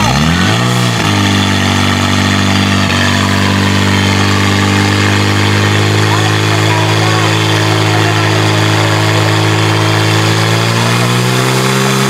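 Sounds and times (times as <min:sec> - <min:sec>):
pump engine running at high speed: 0:00.0 - 0:12.0.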